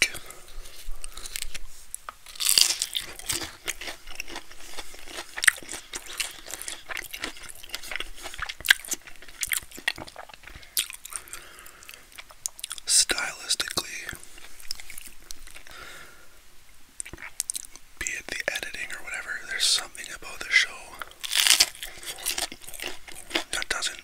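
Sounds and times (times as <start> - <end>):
crunchy food being chewed: 0.0 - 16.0, 17.0 - 18.8, 20.0 - 24.0.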